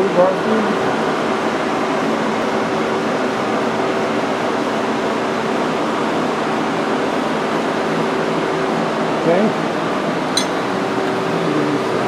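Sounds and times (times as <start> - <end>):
mechanical fan hum: 0.0 - 12.0.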